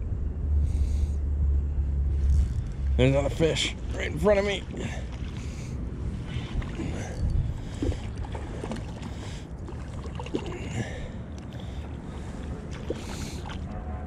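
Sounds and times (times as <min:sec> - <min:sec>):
low rumble: 0:00.0 - 0:14.0
water against hull: 0:02.0 - 0:14.0.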